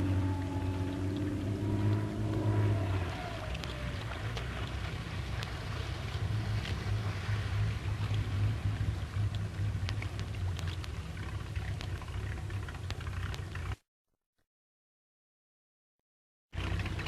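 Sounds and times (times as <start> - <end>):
motorboat engine drone: 0.0 - 13.8, 16.6 - 17.0.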